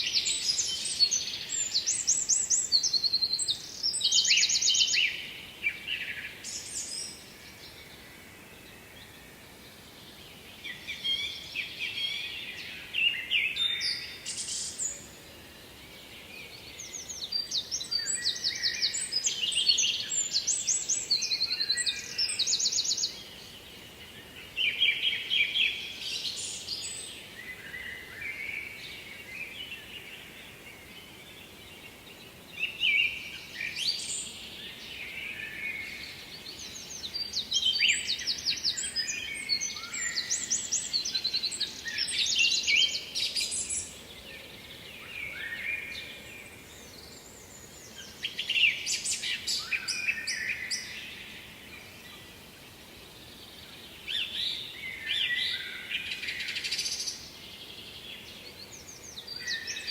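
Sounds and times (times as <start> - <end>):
faint background hiss: 0.0 - 59.9
songbirds singing: 0.0 - 59.9.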